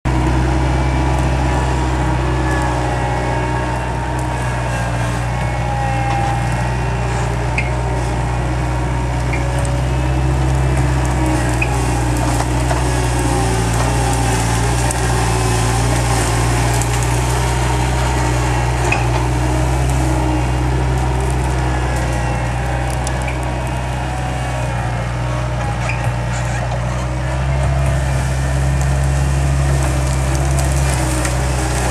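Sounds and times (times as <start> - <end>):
loader engine running: 0.0 - 31.9.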